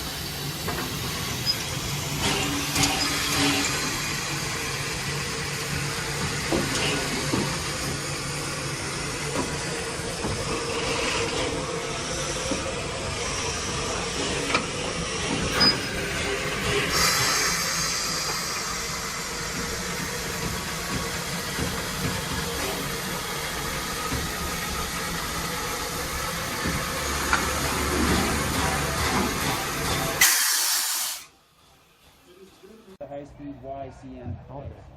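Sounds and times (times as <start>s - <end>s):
steam locomotive rumble and hiss: 0.0s - 34.9s.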